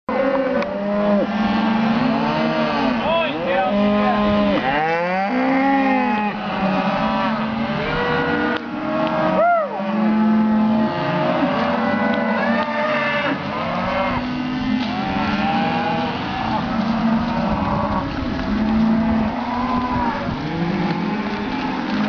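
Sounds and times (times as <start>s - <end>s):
cattle mooing: 0.1s - 22.0s
high-pitched moo: 0.1s - 22.0s.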